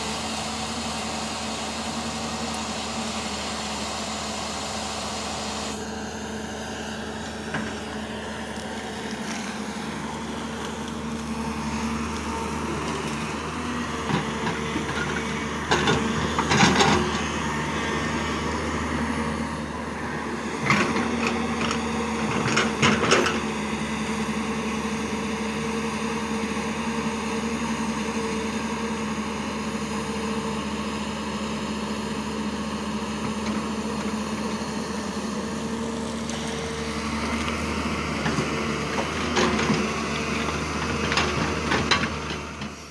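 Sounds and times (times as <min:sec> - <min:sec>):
excavator diesel engine humming: 0:00.0 - 0:42.9.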